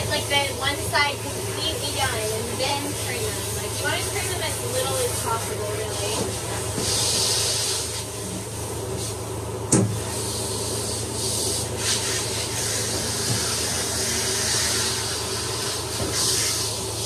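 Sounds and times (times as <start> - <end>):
water spray hissing: 0.0 - 8.2, 10.0 - 17.0
machine hum: 0.0 - 17.0.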